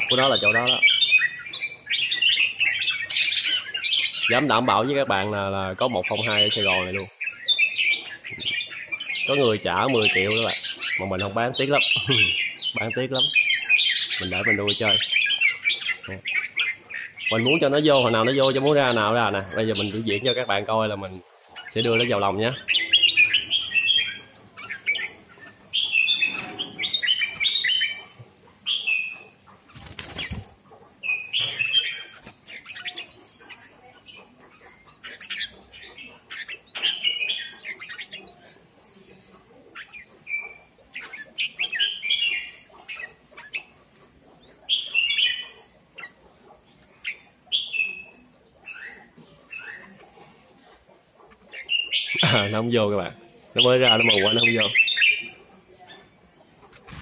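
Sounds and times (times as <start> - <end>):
bulbuls singing chirpy phrases: 0.0 - 57.0.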